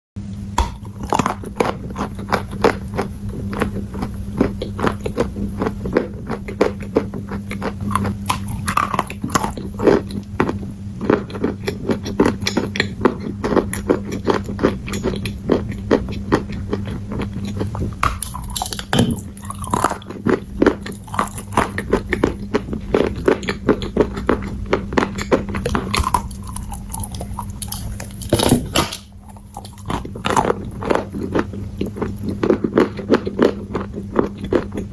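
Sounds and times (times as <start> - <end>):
steady low hum: 0.2 - 34.9
crunchy chewing: 0.6 - 34.9.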